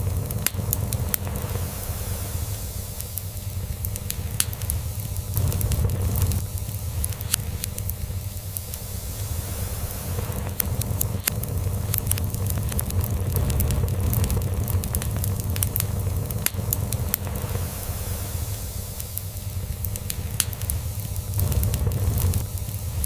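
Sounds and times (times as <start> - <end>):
log fire crackling and popping: 0.0 - 23.0.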